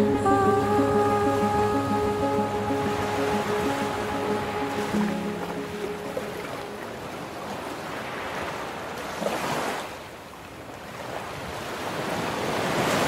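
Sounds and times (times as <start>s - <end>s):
surf washing in: 0.0s - 13.0s.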